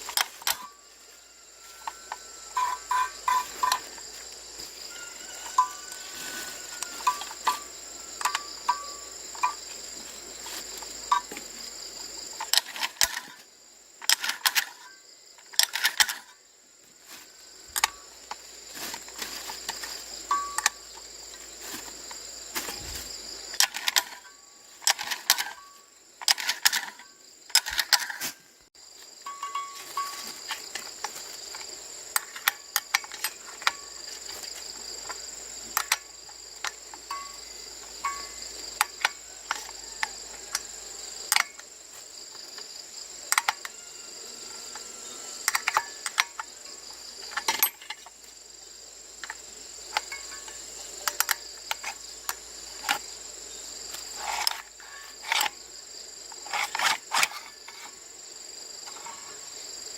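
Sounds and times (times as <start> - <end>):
insects shrilling: 0.0 - 59.9.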